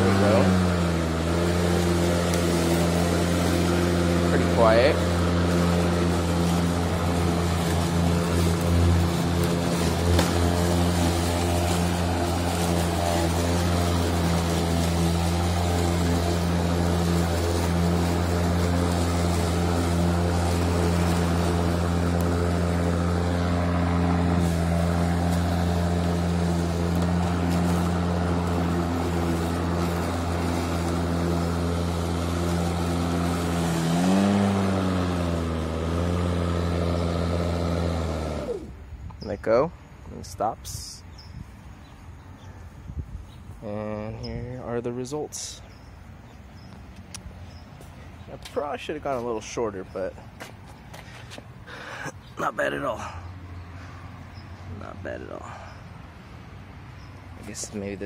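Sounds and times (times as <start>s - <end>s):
electric mower humming: 0.0s - 58.0s.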